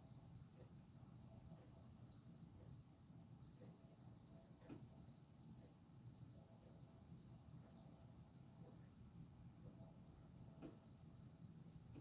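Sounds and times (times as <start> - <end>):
faint low outdoor rumble: 0.0 - 12.0.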